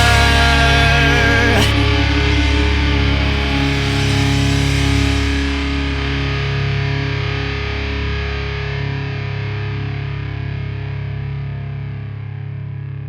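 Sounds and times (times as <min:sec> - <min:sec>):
distorted electric guitar chord: 0:00.0 - 0:13.0.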